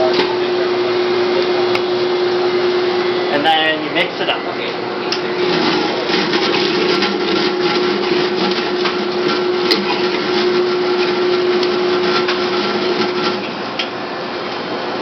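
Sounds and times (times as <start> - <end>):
ice cream mixer motor hum: 0.0 - 15.0.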